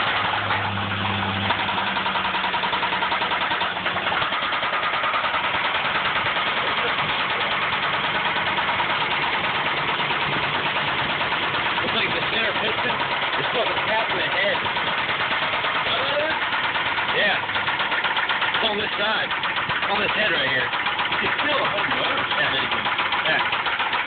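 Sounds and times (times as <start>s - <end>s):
engine running with rod knock: 0.0s - 24.0s.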